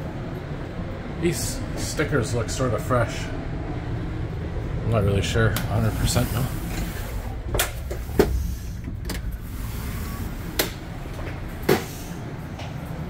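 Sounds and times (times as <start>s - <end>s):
train coach interior hum: 0.0s - 13.0s.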